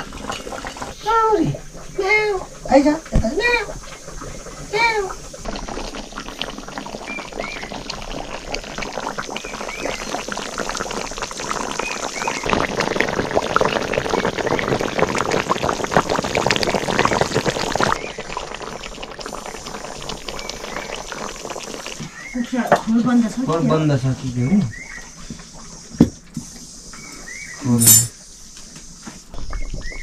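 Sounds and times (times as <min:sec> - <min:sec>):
curry bubbling and popping: 0:00.0 - 0:30.0.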